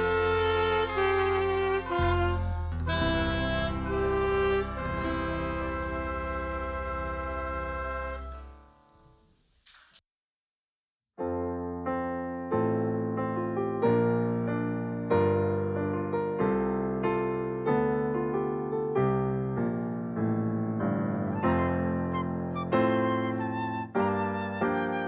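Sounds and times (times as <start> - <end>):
piano playing chords: 0.0 - 8.9, 11.2 - 25.0.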